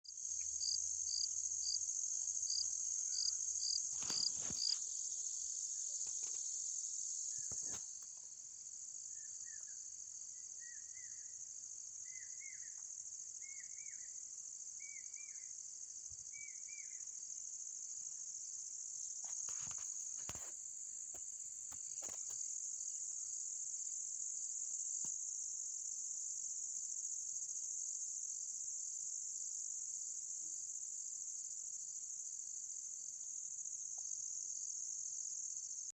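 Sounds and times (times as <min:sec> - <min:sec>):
high-pitched insect chorus: 0:00.1 - 0:35.9.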